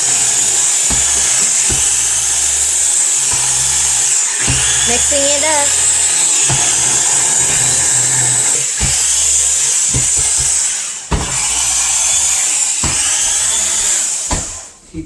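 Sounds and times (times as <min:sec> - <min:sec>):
electric blender motor running: 0:00.0 - 0:14.8.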